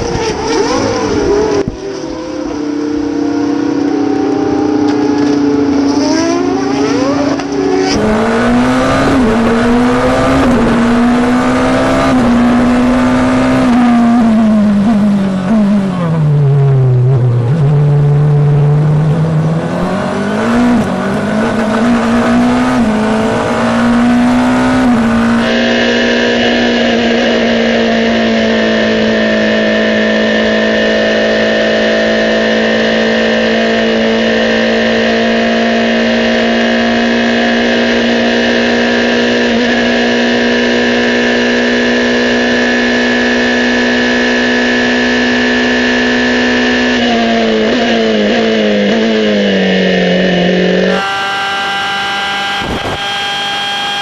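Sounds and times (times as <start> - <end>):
racing car braking and downshifting: 0.0 - 54.0
racing car engine at high pitch: 0.0 - 54.0
racing car engine revving: 0.0 - 54.0.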